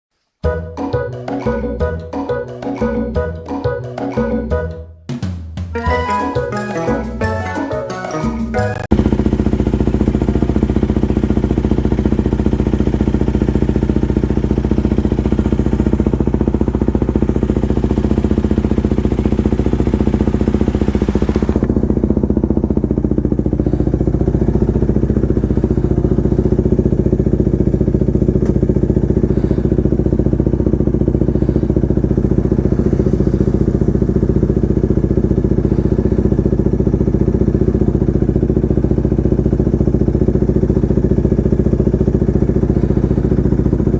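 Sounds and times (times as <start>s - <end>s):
motorcycle engine running: 8.3s - 43.9s.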